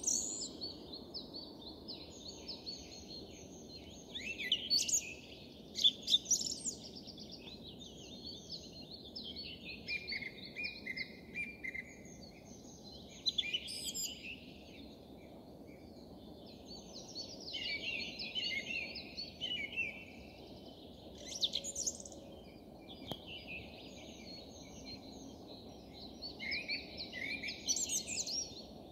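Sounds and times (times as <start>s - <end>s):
faint background noise: 0.0s - 28.9s.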